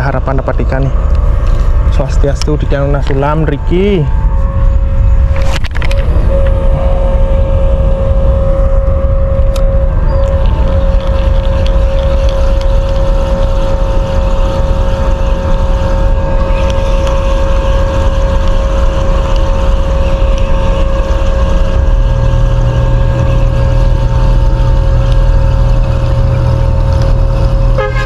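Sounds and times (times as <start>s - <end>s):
constant hum: 0.0s - 28.0s
deeper engine note: 0.0s - 28.0s
ship engine low drone: 0.0s - 28.0s.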